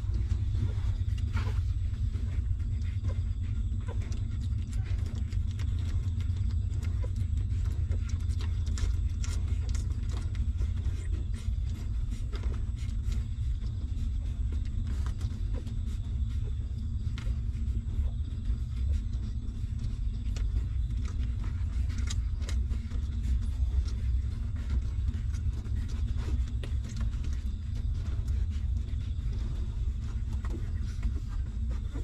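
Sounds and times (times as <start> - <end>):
low rumble: 0.0 - 32.0
puppies suckling clicks: 0.0 - 32.0.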